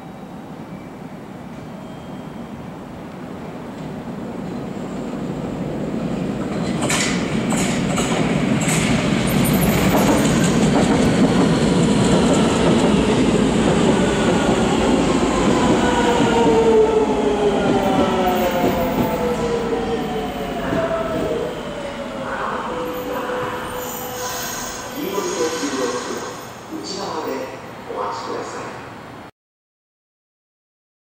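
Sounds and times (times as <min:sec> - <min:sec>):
subway train rumbling: 0:00.0 - 0:29.3.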